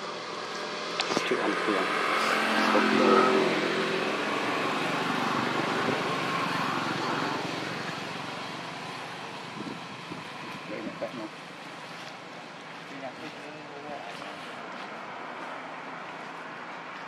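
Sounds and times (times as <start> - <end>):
motor engine running: 0.0 - 14.6.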